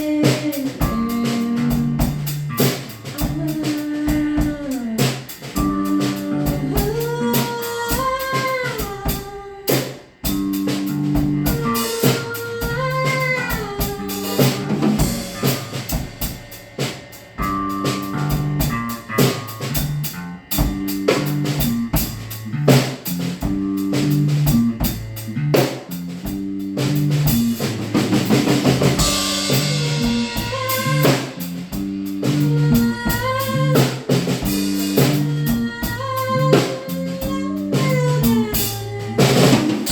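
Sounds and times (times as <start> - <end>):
band music: 0.0 - 39.9
drum kit beat: 0.0 - 39.9.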